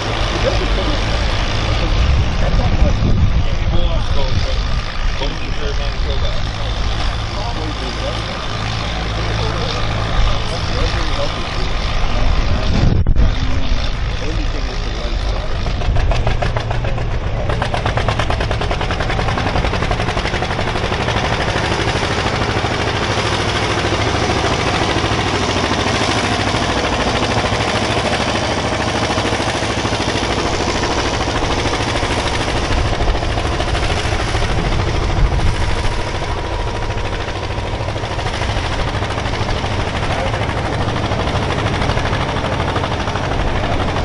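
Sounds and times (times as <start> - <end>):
exhaust popping: 0.0 - 44.0
tractor engine running under load: 0.0 - 44.0.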